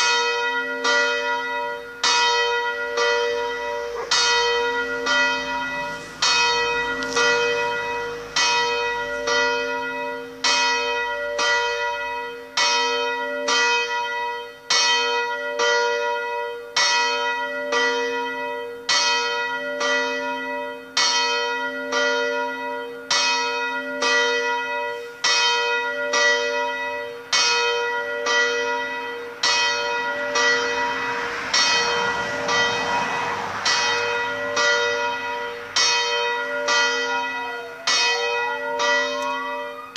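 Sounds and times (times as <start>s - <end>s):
swinging church bells ringing: 0.0s - 39.9s.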